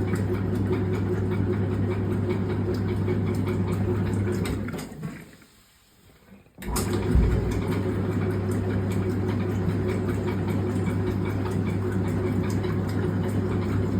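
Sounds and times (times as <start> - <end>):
washing machine agitating: 0.0 - 13.9.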